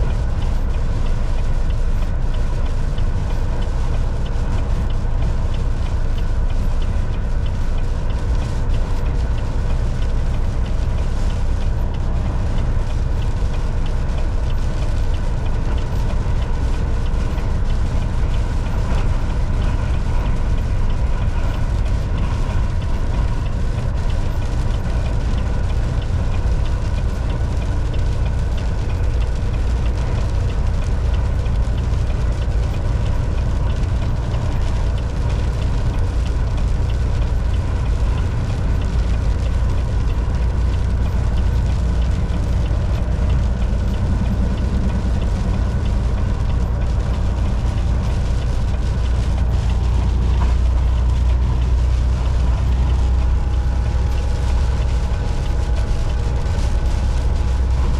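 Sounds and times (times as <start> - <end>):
truck engine and road rumble: 0.0 - 57.9.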